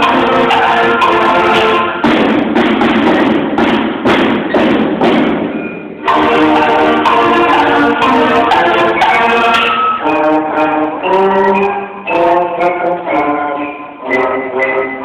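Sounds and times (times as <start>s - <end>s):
concert band playing: 0.0s - 15.0s
percussion hits: 0.0s - 15.0s.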